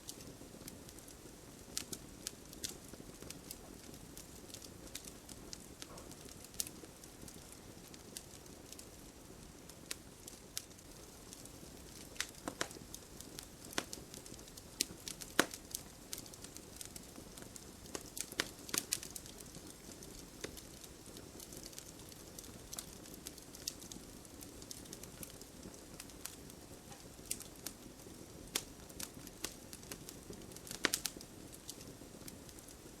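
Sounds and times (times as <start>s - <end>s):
campfire crackling and popping: 0.0s - 33.0s
low hiss of flames: 0.0s - 33.0s.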